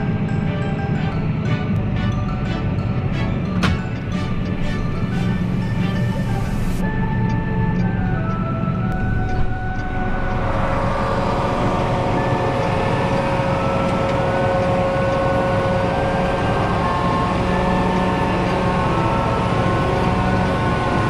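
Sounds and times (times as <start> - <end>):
mechanical whine: 0.0 - 21.0
tractor diesel engine running: 0.0 - 21.0.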